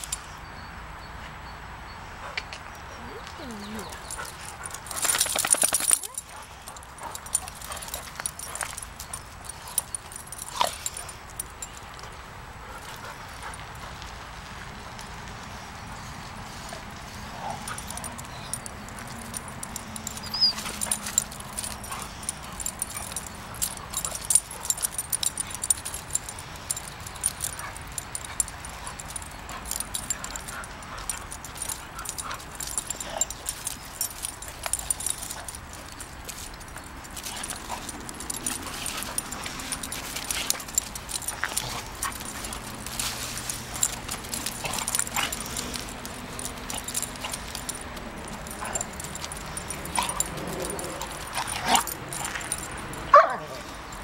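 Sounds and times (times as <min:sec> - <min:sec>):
paws scuffling on gravel: 0:03.1 - 0:54.0.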